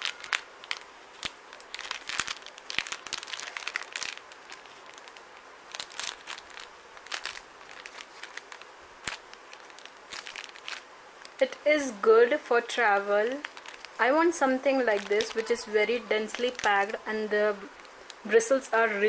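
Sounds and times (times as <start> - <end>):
plastic bag crinkling: 0.0 - 11.6, 12.3 - 18.8.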